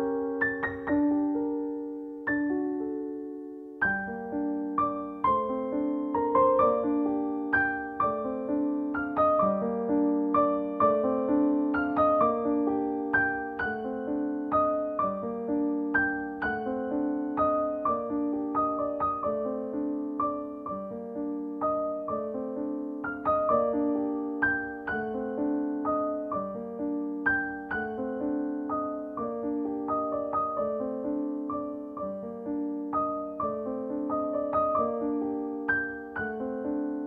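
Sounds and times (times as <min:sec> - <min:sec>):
gentle solo piano music: 0:00.0 - 0:37.0.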